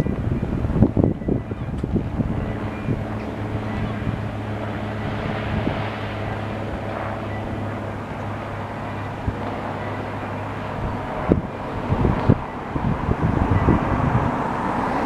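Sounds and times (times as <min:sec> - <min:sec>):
machinery droning hum: 0:00.0 - 0:15.0.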